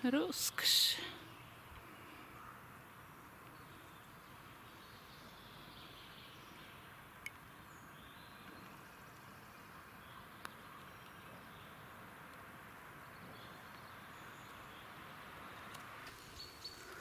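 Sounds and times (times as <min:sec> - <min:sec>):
distant birds singing: 0:00.0 - 0:17.0.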